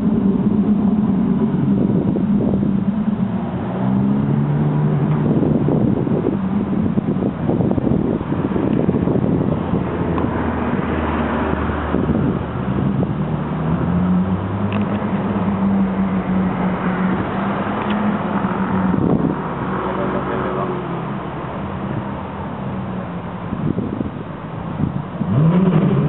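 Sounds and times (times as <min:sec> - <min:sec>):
car engine at low revs: 0:00.0 - 0:26.0.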